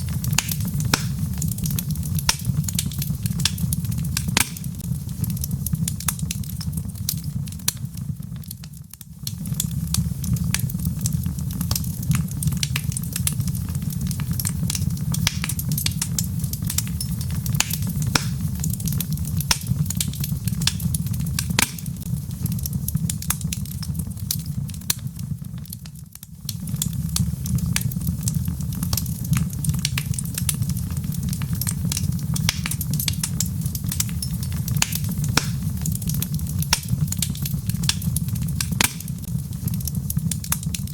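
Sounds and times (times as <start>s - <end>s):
fire flames rumbling: 0.0s - 40.9s
logs crackling and popping: 0.0s - 40.9s.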